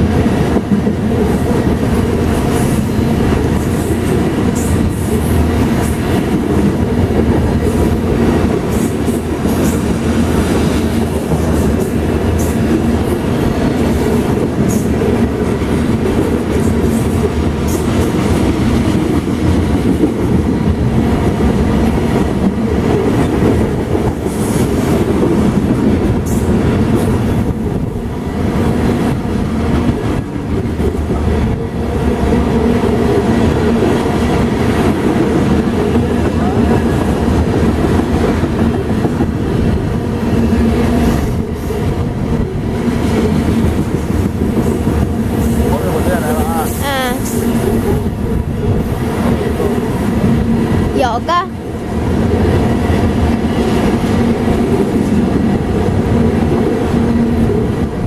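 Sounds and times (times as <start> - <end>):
freight train rumbling past: 0.0 - 58.0
steel wheels clattering on rail: 0.0 - 58.0.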